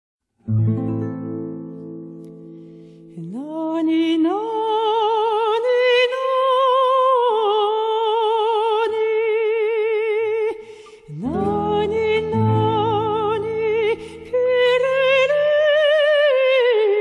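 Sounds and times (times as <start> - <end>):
woman singing wordless notes: 3.1 - 17.0.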